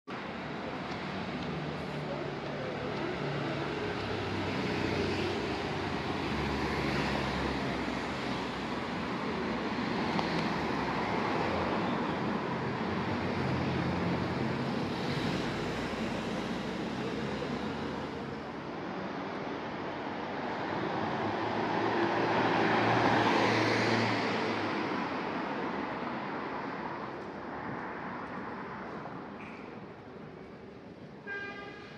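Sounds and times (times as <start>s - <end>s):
cars and scooters passing: 0.2s - 31.2s
hiss of street noise: 0.2s - 31.9s.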